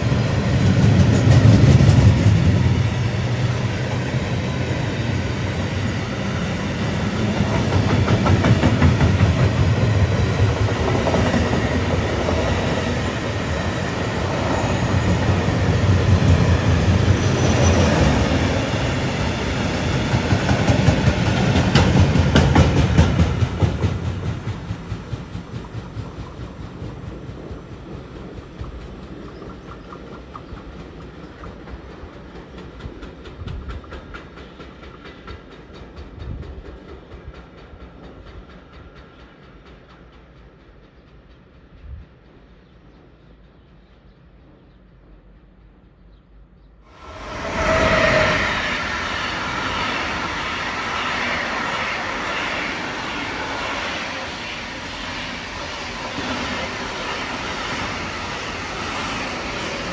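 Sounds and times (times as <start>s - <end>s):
freight train wagons rumbling: 0.0s - 59.9s.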